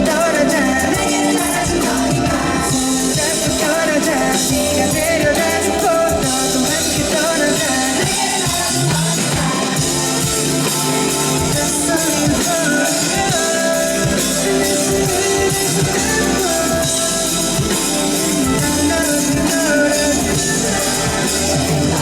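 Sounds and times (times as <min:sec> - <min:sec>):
live pop-rock band: 0:00.0 - 0:22.0
person singing: 0:00.0 - 0:22.0.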